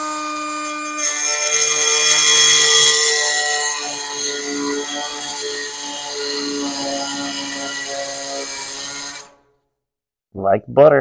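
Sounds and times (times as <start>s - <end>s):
blade grinding through stone: 0.0s - 9.4s
cut-off tool motor whine: 0.0s - 9.5s.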